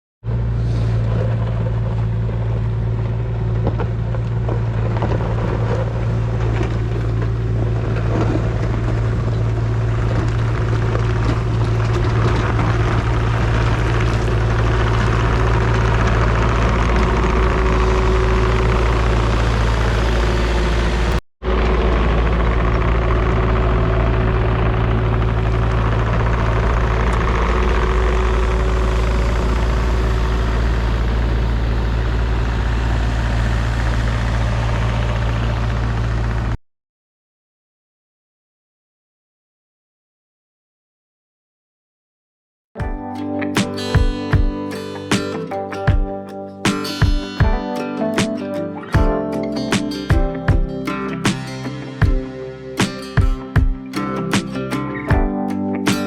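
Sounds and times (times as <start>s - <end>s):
excavator diesel engine running: 0.3s - 36.6s, 42.8s - 56.0s.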